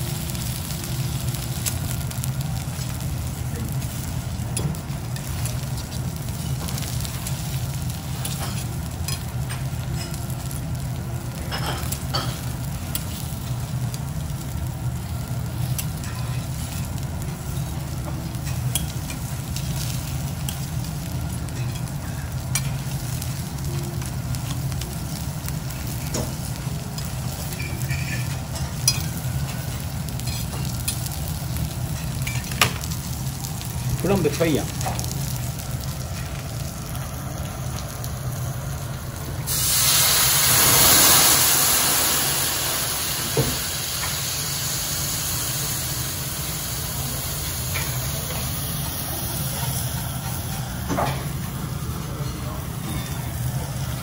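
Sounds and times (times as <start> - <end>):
meat sizzling on a griddle: 0.0 - 54.0.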